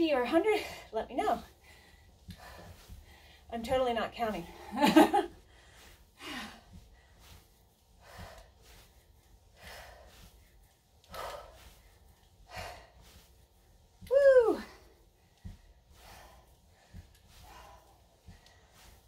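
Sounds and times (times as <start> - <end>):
woman breathing hard: 0.6 - 3.5, 4.6 - 19.0.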